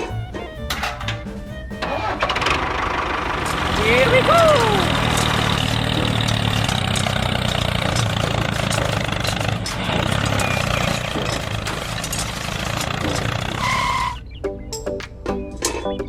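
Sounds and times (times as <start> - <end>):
small engine running: 0.0 - 14.3.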